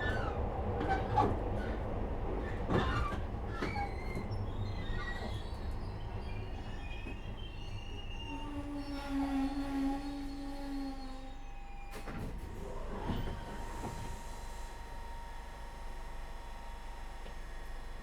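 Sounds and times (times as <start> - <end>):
train wheels rumbling on rail: 0.0 - 16.2.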